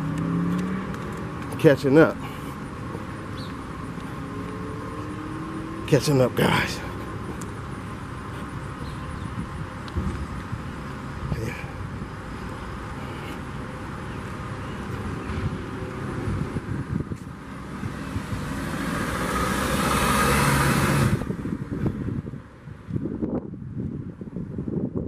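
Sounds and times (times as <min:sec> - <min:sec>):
vehicle passing: 0:00.0 - 0:22.4
outdoor background noise: 0:00.0 - 0:25.0.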